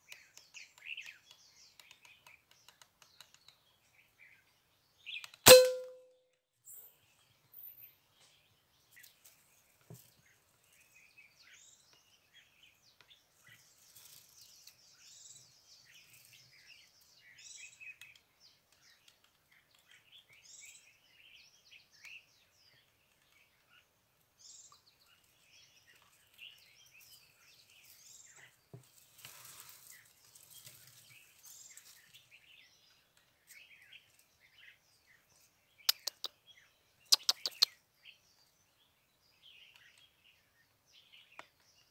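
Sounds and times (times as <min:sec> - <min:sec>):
small birds chirping: 0:00.0 - 0:05.8, 0:06.6 - 0:41.9.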